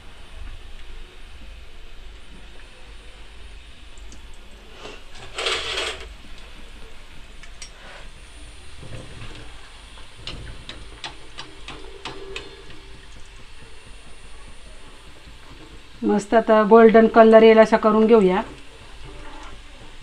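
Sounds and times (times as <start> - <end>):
food sizzling in hot oil: 0.6 - 20.0.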